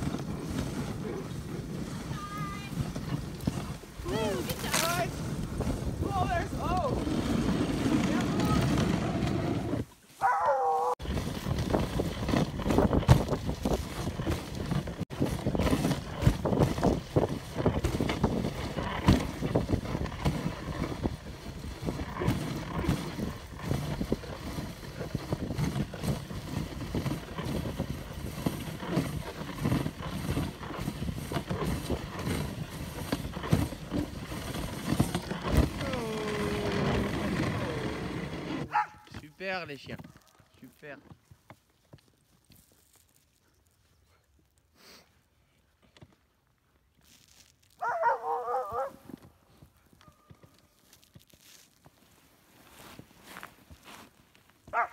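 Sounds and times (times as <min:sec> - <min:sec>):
sled rushing over snow: 0:00.0 - 0:41.0, 0:50.8 - 0:54.9
sled knocks and jolts: 0:00.0 - 0:41.6, 0:47.1 - 0:54.9.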